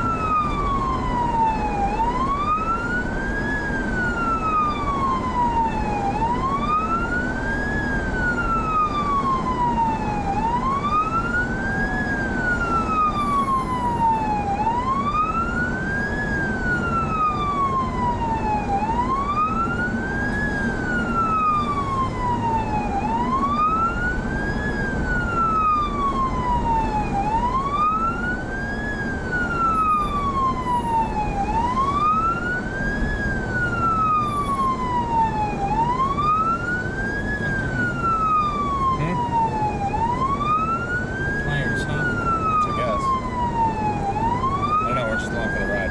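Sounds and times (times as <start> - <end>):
police siren wailing: 0.0 - 45.9
road and engine rumble: 0.0 - 45.9.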